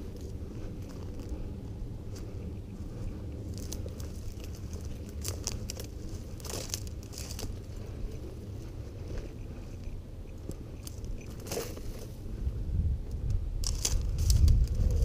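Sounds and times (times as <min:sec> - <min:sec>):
footsteps crunching dry grass: 0:00.0 - 0:12.6, 0:13.6 - 0:15.0
low rumble: 0:00.0 - 0:15.0.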